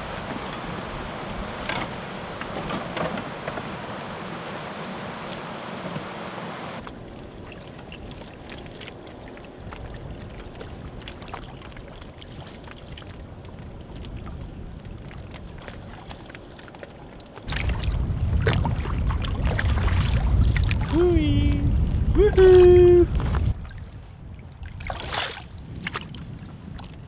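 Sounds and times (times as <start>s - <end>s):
water lapping and splashing: 0.0s - 27.0s.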